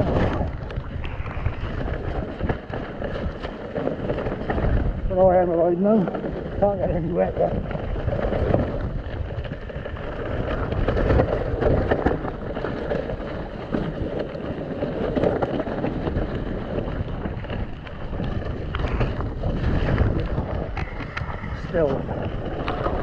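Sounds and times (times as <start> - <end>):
bike knocking and rattling: 0.0 - 23.0
wind rushing over microphone: 0.0 - 23.0.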